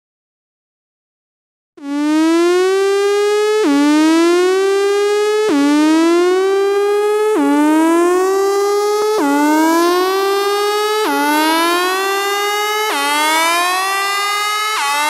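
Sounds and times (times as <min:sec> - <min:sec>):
siren-like synthesizer tone: 0:01.8 - 0:15.0.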